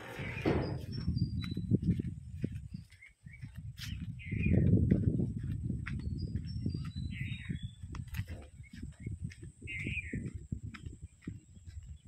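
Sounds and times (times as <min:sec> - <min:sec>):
footsteps on dirt path: 0:00.0 - 0:12.0.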